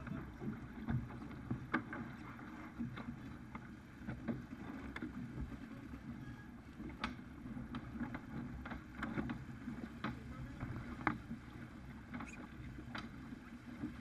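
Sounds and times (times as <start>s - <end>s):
water rushing along hull: 0.0s - 14.0s.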